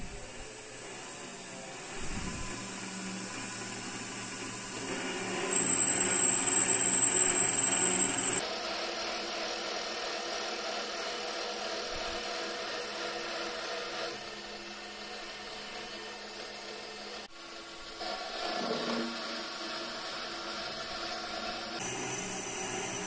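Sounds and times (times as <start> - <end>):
lathe whirring: 0.0 - 23.0
cutter scraping steel pipe: 2.0 - 17.3, 17.9 - 21.8.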